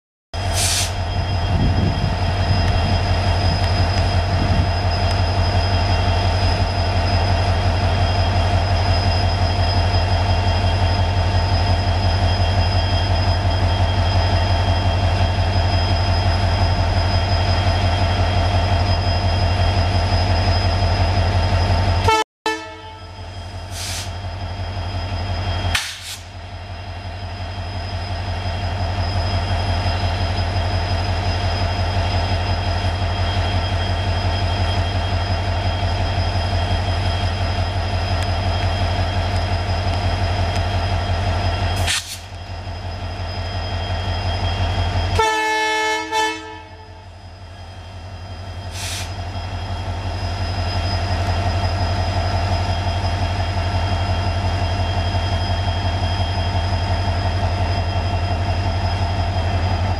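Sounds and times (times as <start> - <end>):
diesel locomotive engine humming: 0.4 - 59.9.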